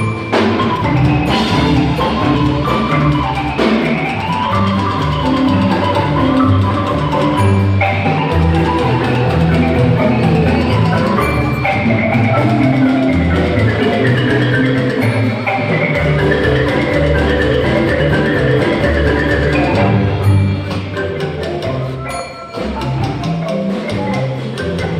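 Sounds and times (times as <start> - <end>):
marimba music: 0.0 - 24.9.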